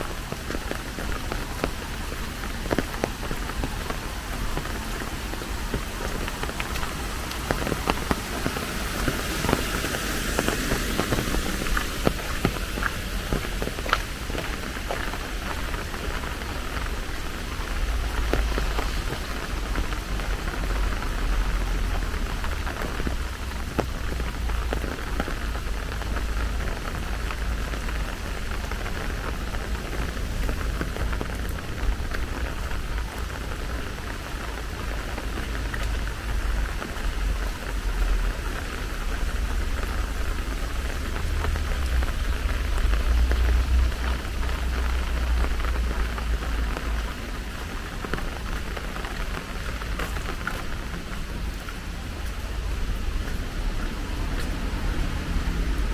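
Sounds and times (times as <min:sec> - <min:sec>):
continuous low rumble: 0:00.0 - 0:55.9
steady rain falling: 0:00.0 - 0:55.9.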